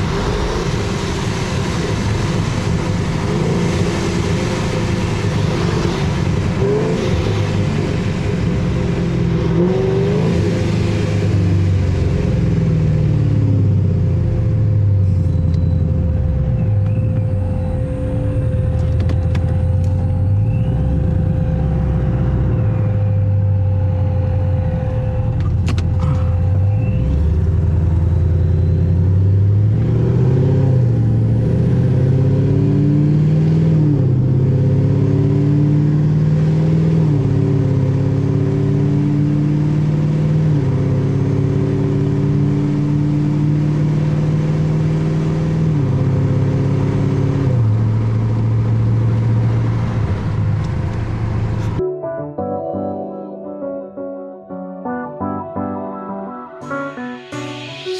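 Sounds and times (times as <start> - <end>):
car engine accelerating: 0.0 - 51.8.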